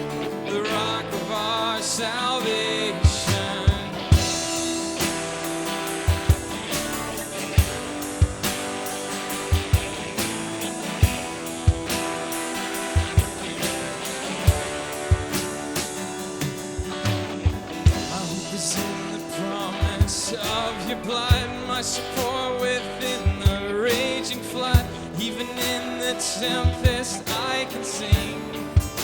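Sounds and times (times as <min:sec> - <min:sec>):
drum kit beat: 0:00.0 - 0:29.0
strummed guitar: 0:00.0 - 0:29.0.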